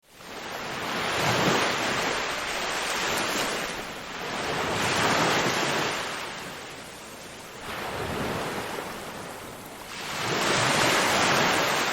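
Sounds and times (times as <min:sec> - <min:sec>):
ocean waves washing in: 0:00.1 - 0:11.9.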